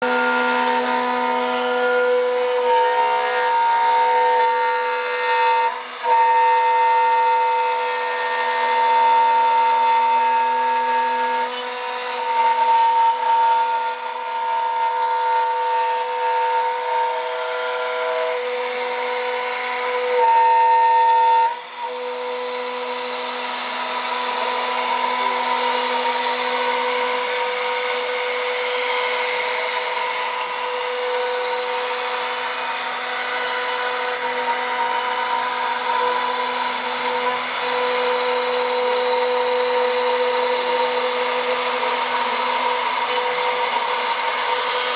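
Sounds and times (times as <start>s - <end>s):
bit cutting wood: 0.0s - 44.9s
router spindle high whine: 0.0s - 44.9s.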